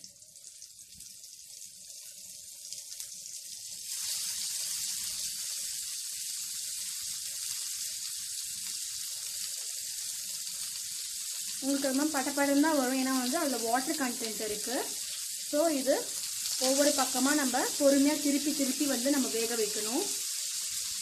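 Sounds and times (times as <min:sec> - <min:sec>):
skewers sizzling in hot oil: 0:00.0 - 0:21.0.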